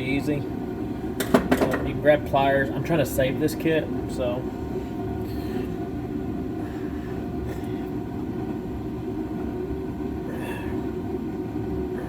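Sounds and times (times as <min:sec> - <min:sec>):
heater low rumble: 0:00.0 - 0:12.0.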